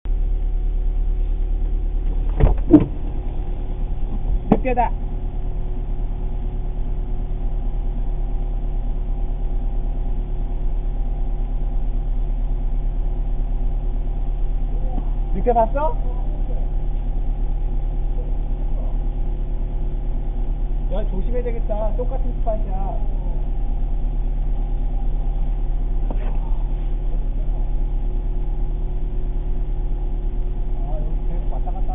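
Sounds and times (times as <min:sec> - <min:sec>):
car engine and road rumble: 0:00.1 - 0:31.9.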